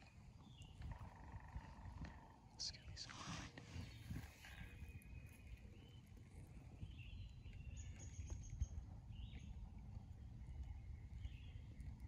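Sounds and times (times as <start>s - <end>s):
faint songbird chirps: 0.0s - 12.0s
low steady rumble: 0.0s - 12.0s.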